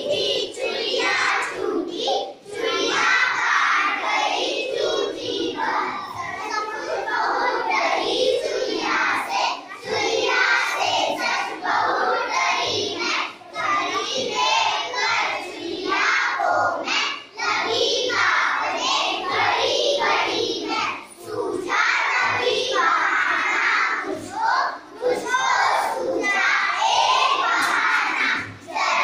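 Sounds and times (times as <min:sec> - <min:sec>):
children singing together: 0:00.0 - 0:29.0.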